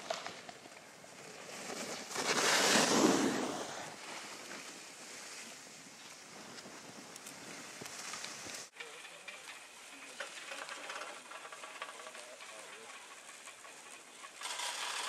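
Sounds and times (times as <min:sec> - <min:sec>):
skis scraping packed snow: 0:00.0 - 0:15.0.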